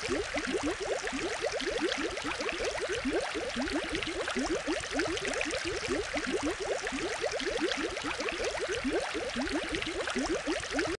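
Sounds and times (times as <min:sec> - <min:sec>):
aquarium water bubbling: 0:00.0 - 0:10.9.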